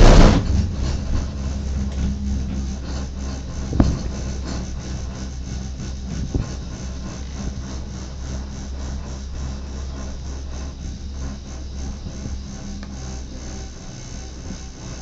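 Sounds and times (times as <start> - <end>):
cable car humming and rushing: 0.0 - 15.0.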